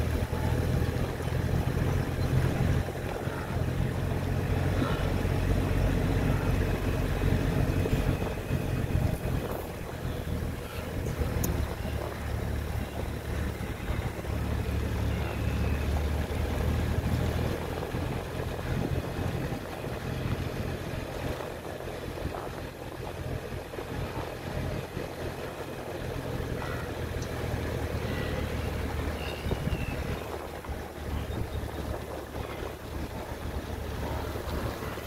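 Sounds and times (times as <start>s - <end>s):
vehicle engine and road rumble: 0.0s - 35.0s
wind buffeting microphone: 0.0s - 35.0s.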